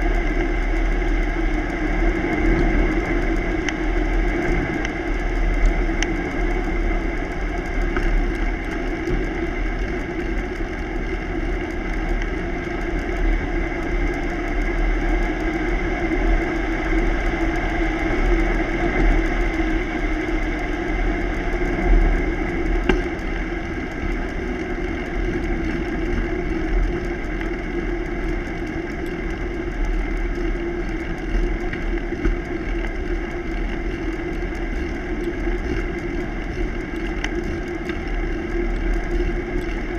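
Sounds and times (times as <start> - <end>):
bicycle tyre and drivetrain hum: 0.0 - 39.9.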